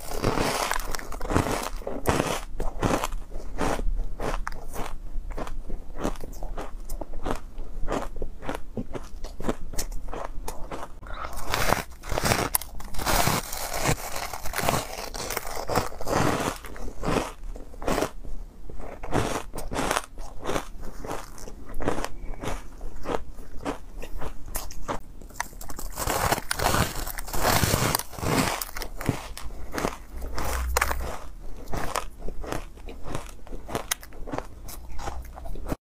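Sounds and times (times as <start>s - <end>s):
crunching ice between teeth: 0.0s - 18.2s, 18.8s - 35.8s.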